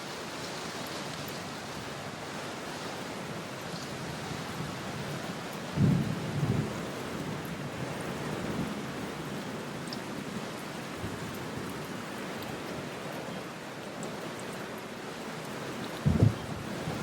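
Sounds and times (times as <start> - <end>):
rain on window glass: 0.0 - 17.0.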